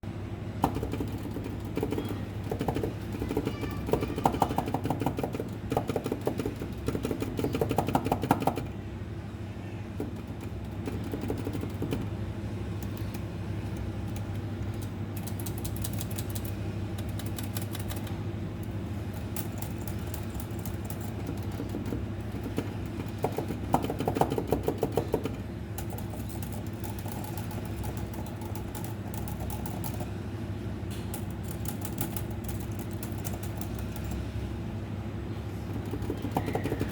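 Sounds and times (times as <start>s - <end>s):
steady low hum: 0.0s - 36.9s
mechanical keyboard typing: 0.6s - 8.8s, 10.0s - 30.2s, 30.9s - 34.3s, 35.6s - 36.9s.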